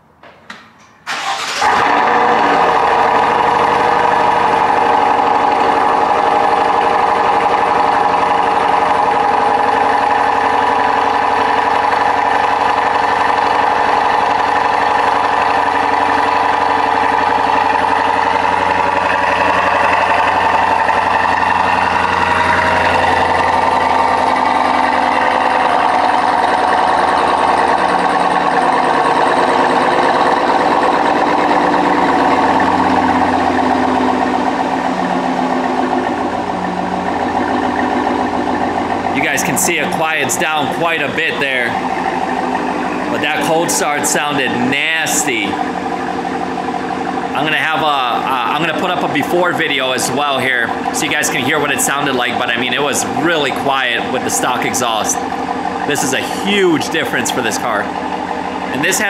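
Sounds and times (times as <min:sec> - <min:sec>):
engine cranking: 0:00.8 - 0:59.0
car engine idling loudly: 0:01.1 - 0:59.0.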